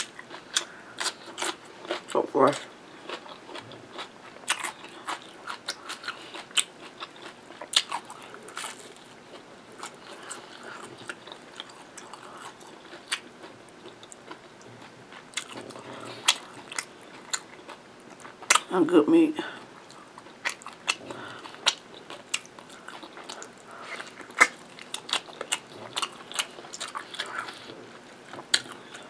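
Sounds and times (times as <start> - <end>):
person chewing food: 0.0 - 18.7, 19.4 - 29.0.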